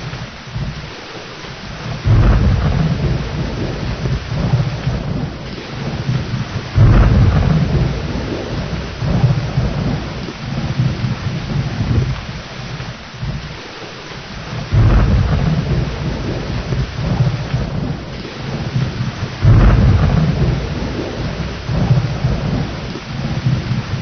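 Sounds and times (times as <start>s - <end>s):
heavy rain: 0.0s - 24.0s
rolling thunder: 1.7s - 13.7s, 14.3s - 24.0s.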